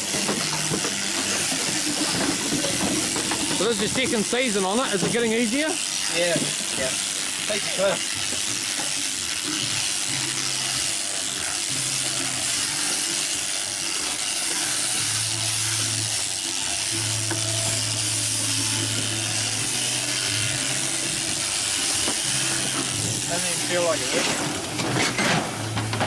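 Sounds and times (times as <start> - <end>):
shearing machine running: 0.0 - 26.0.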